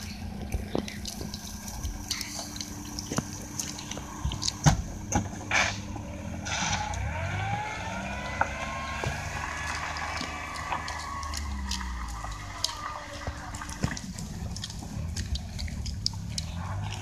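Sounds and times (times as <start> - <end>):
dog crunching a chew: 0.0 - 4.7, 6.9 - 17.0
low rumble: 0.0 - 17.0.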